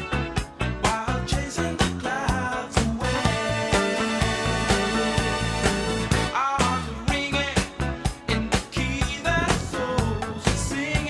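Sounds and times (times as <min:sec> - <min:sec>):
upbeat funk music: 0:00.0 - 0:11.0.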